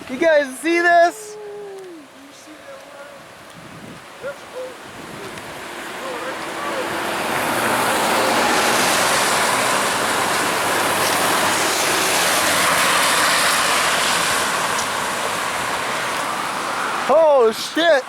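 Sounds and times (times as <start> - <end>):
heavy storm wind rushing: 0.0 - 17.1.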